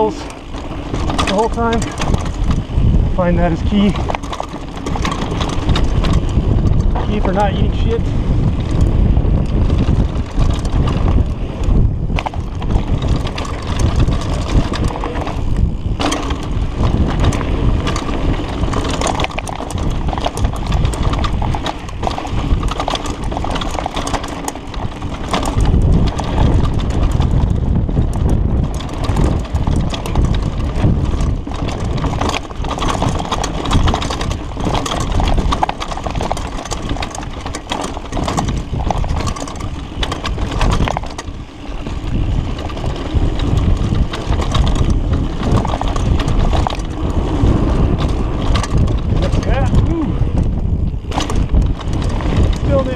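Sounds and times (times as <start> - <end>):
bike rattling over bumps: 0.0 - 52.9
bike tyres on dirt and rocks: 0.0 - 52.9
wind noise on microphone: 0.0 - 52.9.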